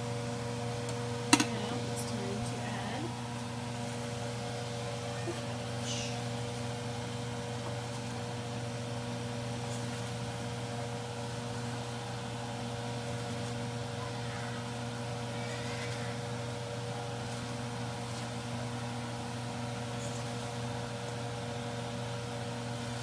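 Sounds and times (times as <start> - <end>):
low kitchen hum: 0.0 - 23.0.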